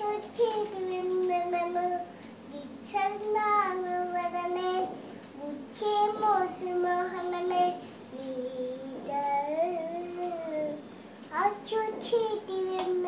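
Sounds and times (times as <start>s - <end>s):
girl singing alone: 0.0s - 13.0s.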